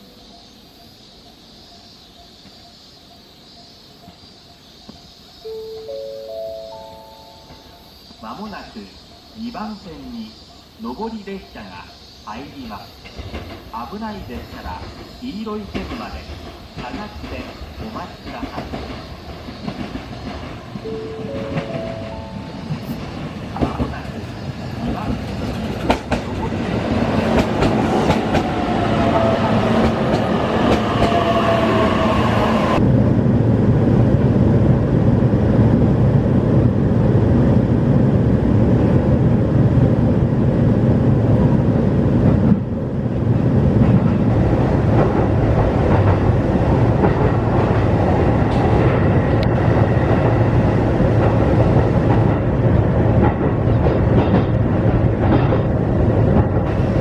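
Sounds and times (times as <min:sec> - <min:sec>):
train rumbling: 0:04.0 - 0:57.0.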